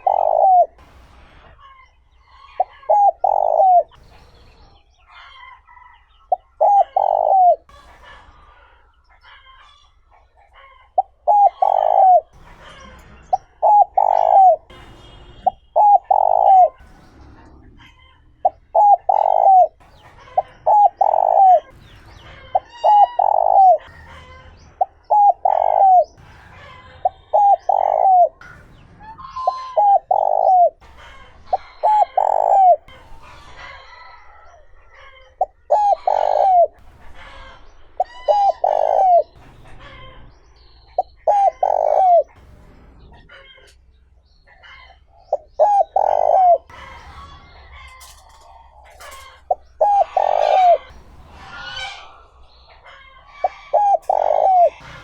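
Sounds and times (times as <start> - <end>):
dove cooing: 0.0 - 40.2, 40.8 - 42.4, 44.6 - 55.0
small birds chirping: 0.0 - 55.0.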